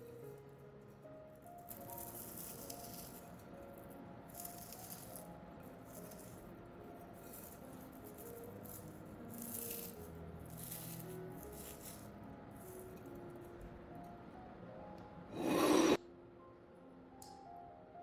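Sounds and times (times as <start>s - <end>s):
quiet background music: 0.0s - 18.0s.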